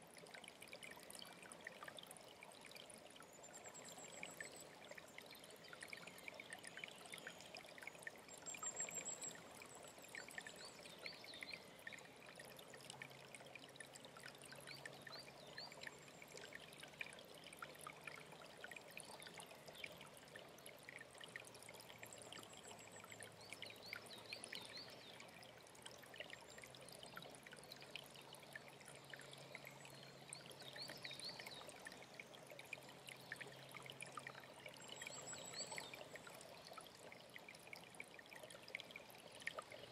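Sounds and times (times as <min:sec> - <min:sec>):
stream trickling and pouring: 0:00.0 - 0:39.9.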